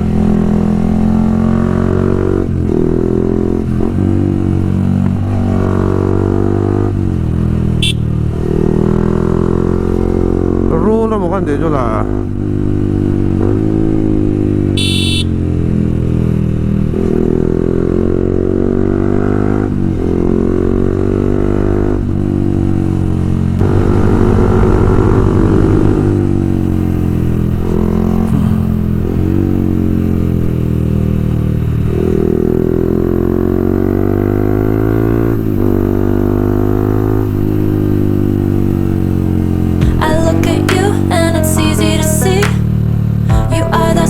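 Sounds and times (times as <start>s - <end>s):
motorcycle engine shifting gears: 0.0s - 44.0s.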